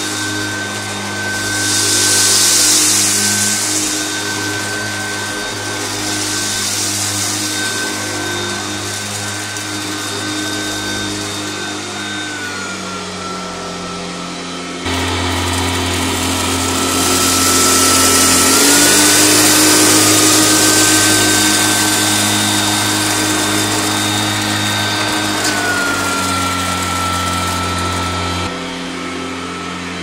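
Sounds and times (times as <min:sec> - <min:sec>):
vacuum cleaner running on carpet: 0:00.0 - 0:30.0.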